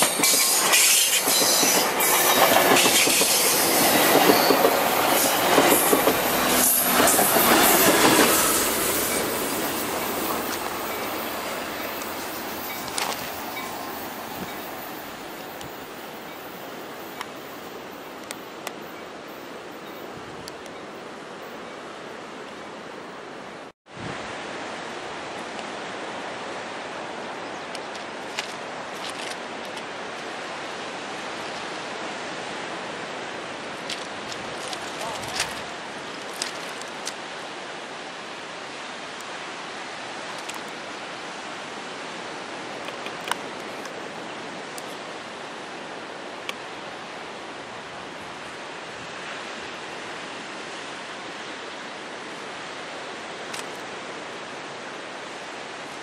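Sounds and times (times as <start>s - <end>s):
ocean surf rushing: 0.0s - 56.0s
wind: 0.0s - 56.0s.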